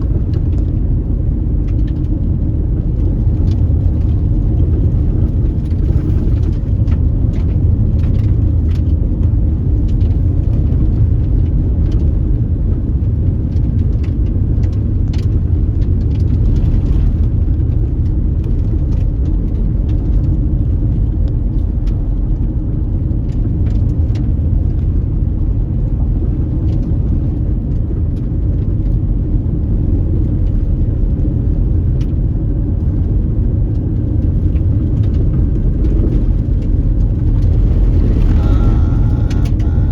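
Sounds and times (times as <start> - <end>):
car on unpaved road rumbling: 0.0 - 39.9.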